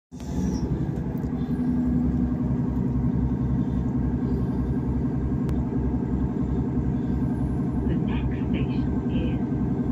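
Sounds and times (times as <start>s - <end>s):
diesel train engine drone: 0.1s - 9.9s.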